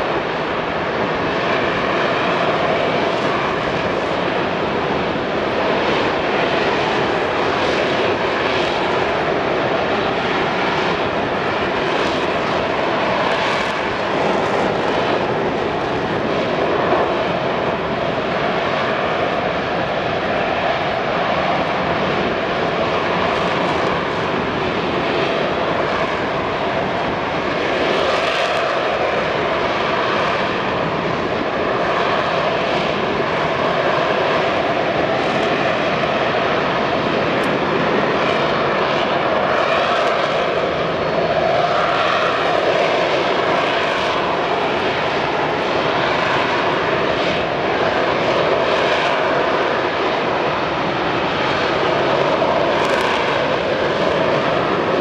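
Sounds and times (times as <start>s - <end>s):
jet engine roaring: 0.0s - 55.0s.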